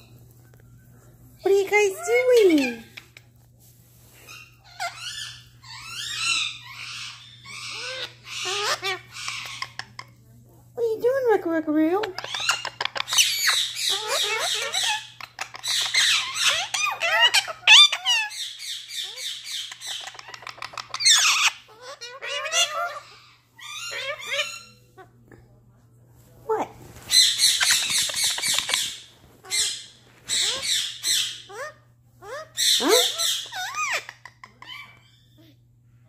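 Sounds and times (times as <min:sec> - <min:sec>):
parakeets squawking and chattering: 0:01.1 - 0:03.4, 0:04.0 - 0:10.4, 0:11.0 - 0:25.2, 0:26.5 - 0:35.6.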